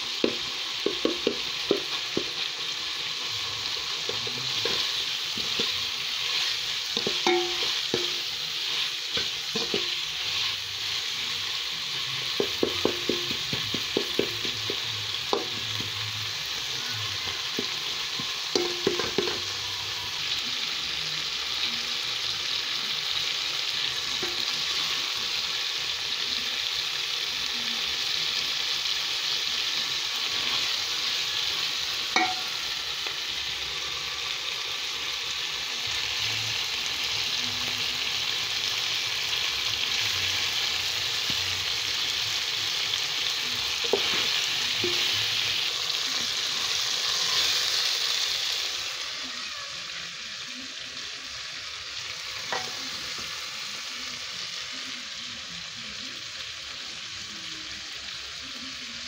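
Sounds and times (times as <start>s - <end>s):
food sizzling in a pot: 0.0s - 59.0s.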